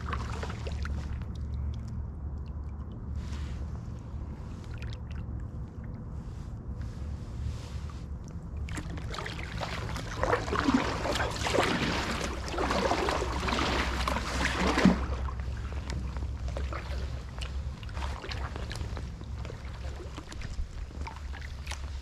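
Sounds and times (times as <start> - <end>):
paddle swishing through water: 0.0 - 22.0
steady low rumble: 0.0 - 22.0.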